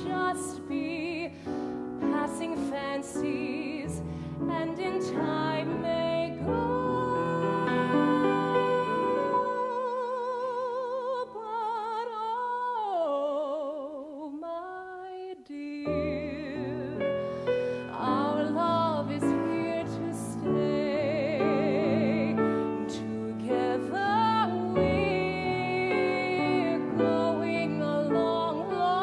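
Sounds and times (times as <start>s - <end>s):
woman singing with vibrato: 0.0s - 1.4s, 2.0s - 17.1s, 17.8s - 29.0s
grand piano accompaniment: 0.0s - 10.4s, 15.8s - 29.0s.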